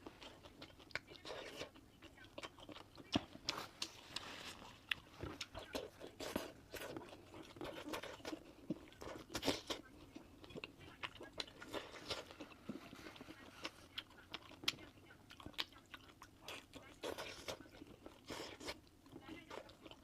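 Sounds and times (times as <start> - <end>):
person chewing with crunchy clicks: 0.0 - 20.0.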